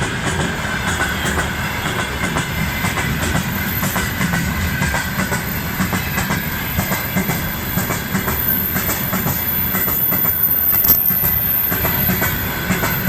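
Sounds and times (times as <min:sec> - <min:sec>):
train rumble: 0:00.0 - 0:13.0
train wheels clacking over rail joints: 0:00.0 - 0:13.0.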